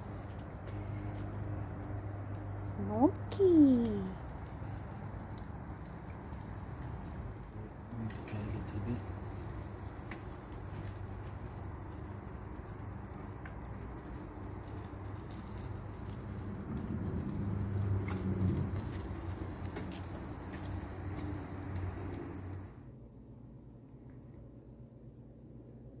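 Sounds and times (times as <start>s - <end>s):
wood fire crackling in stove: 0.0s - 23.0s.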